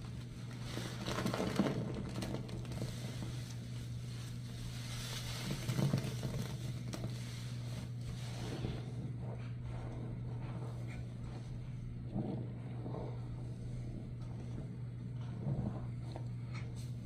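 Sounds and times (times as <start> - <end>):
soapy sponge squishing: 0.0 - 17.0
steady low hum: 0.0 - 17.0.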